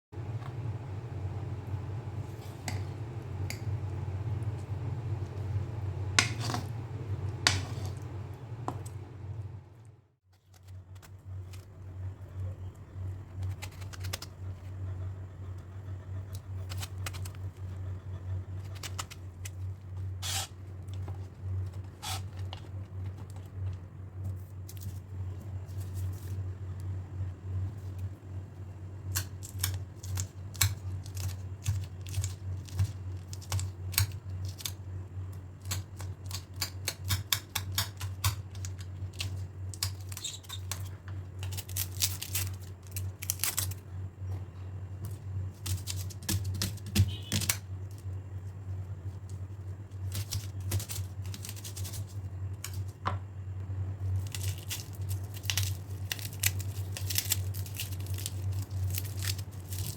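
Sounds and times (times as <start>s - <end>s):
steady low hum: 0.1s - 59.9s.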